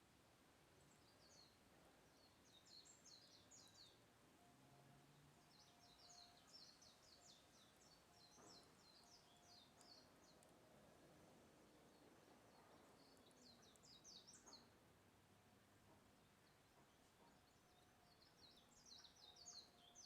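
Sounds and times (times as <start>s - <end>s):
faint songbird chirping: 0.6s - 20.0s.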